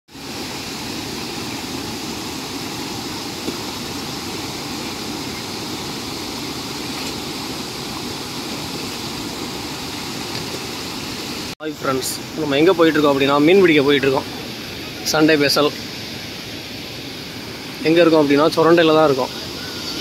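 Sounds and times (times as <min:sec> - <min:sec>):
river water rushing over rocks: 0:00.1 - 0:20.0.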